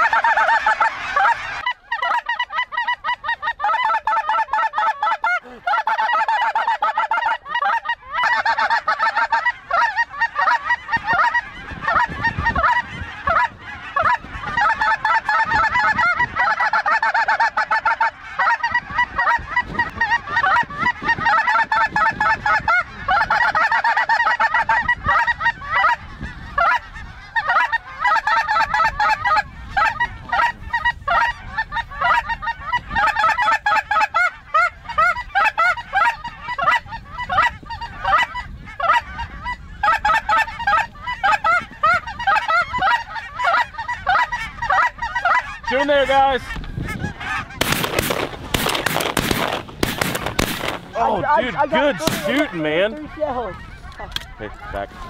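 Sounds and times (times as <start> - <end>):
flock of geese honking: 0.0 - 55.0.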